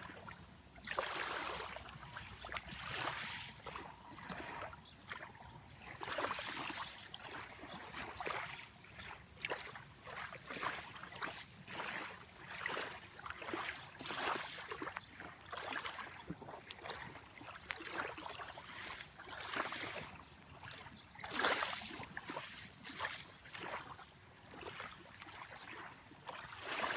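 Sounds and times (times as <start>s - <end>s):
small waves lapping on shore: 0.0s - 26.9s.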